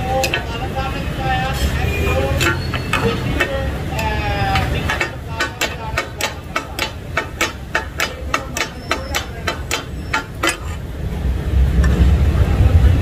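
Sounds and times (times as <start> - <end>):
metal blades striking griddle: 0.0 - 10.9.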